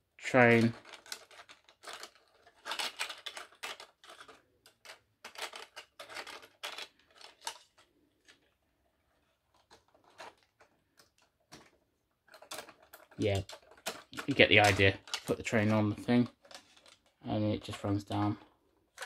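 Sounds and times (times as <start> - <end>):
plastic clicks and rattles: 0.4 - 19.0.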